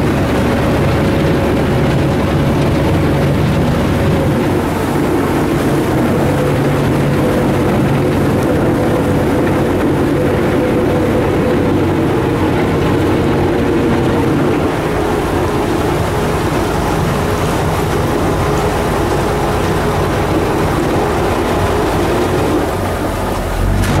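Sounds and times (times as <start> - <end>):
motorboat engine droning: 0.0 - 24.0
water rushing along hull: 0.0 - 24.0.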